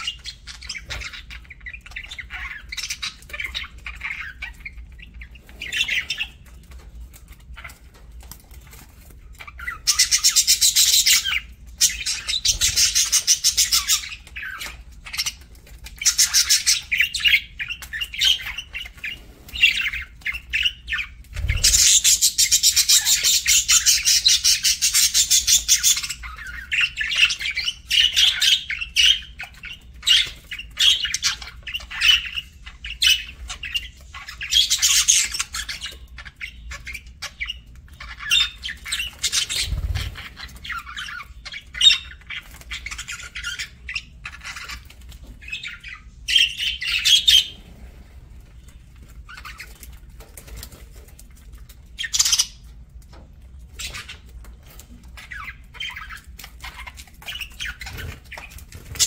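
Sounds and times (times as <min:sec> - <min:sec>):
budgerigars chirping and chattering: 0:00.0 - 0:59.0.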